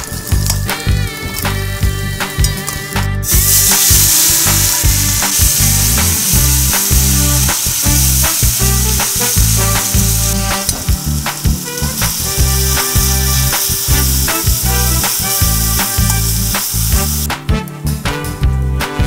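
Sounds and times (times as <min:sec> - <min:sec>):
hot oil sizzling: 0:00.0 - 0:18.5
background music: 0:00.0 - 0:19.0.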